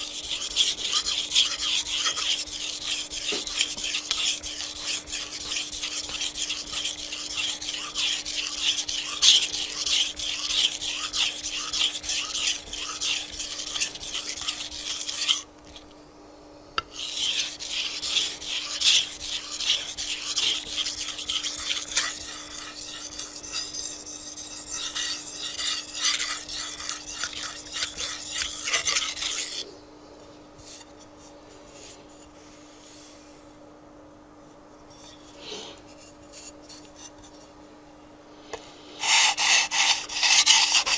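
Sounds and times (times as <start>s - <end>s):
knife scraping on whetstone: 0.0s - 15.8s, 16.9s - 29.7s, 34.9s - 37.5s, 39.0s - 40.9s
low steady hum: 0.0s - 39.0s.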